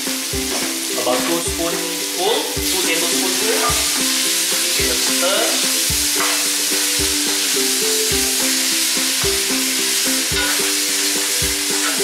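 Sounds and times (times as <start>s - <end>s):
background music: 0.0s - 12.0s
meat sizzling in a pot: 0.0s - 12.0s.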